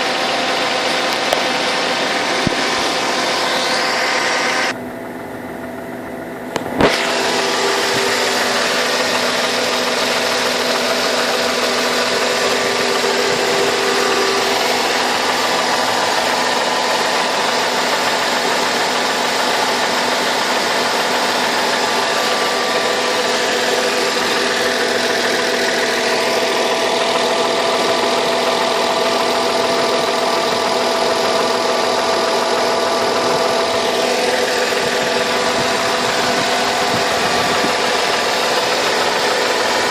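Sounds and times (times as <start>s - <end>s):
engine idling with a knock: 0.0s - 3.4s, 6.4s - 39.9s.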